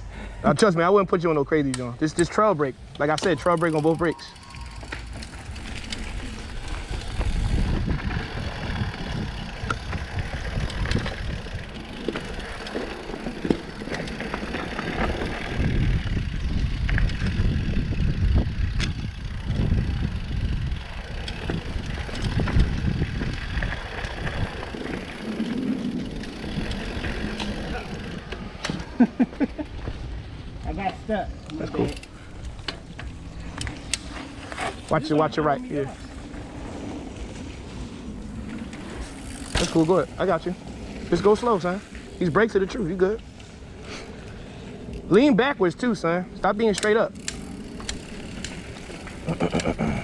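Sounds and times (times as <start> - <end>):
bike tyres crunching on gravel: 1.6 - 45.5, 46.6 - 50.0.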